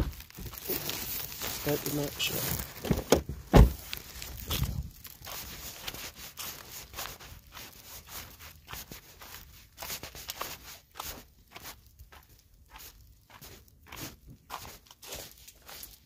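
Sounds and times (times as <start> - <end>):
footsteps crunching on gravel: 0.0 - 16.0.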